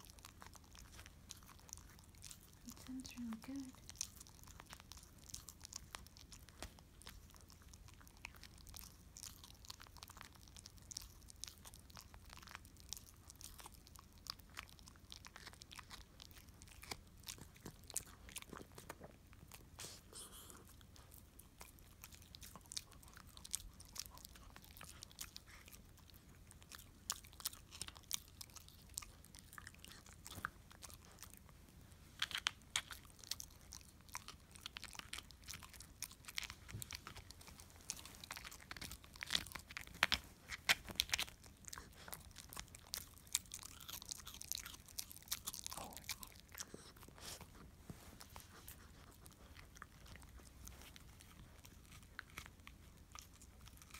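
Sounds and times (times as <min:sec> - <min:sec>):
dog chewing on a bone: 0:00.0 - 0:53.9.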